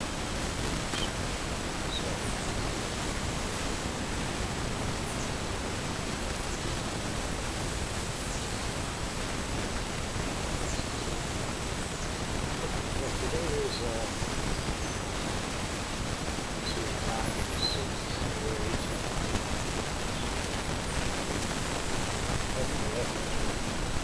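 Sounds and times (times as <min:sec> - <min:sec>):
microphone hiss: 0:00.0 - 0:24.0.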